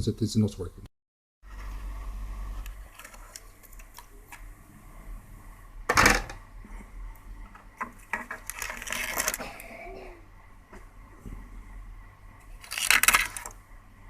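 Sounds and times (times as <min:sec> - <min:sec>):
low steady hum: 0:01.5 - 0:14.0.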